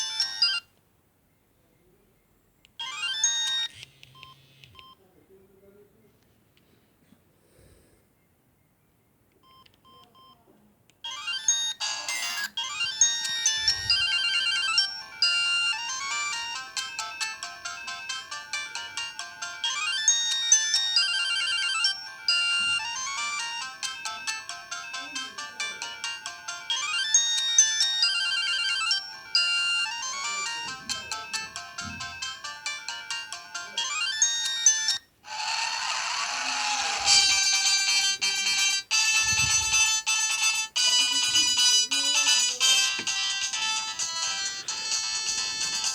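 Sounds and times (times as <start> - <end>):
mobile phone ringtone melody: 0.0 - 0.7, 2.8 - 4.5, 11.0 - 45.9.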